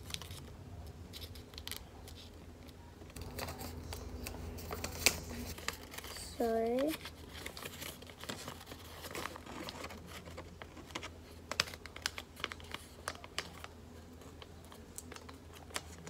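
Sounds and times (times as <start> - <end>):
paper being folded and creased: 0.0 - 0.5, 1.1 - 16.0.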